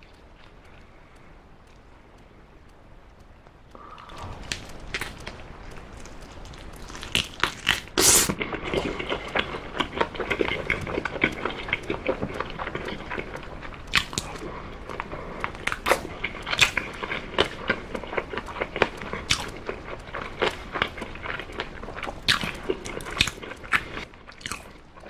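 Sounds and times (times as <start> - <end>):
person chewing chicken: 3.7 - 25.0
loud bite: 3.8 - 24.8.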